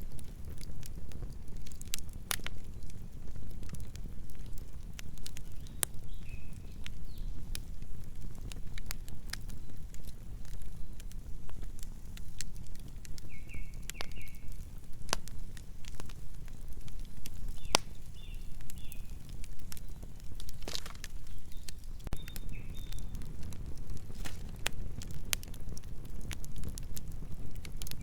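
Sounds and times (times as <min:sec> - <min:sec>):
logs crackling and popping: 0:00.0 - 0:28.0
low rumble of flames: 0:00.0 - 0:28.0.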